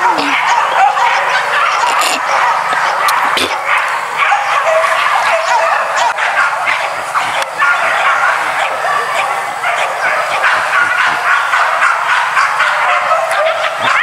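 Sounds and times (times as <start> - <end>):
dogs barking and yelping: 0.0 - 14.0.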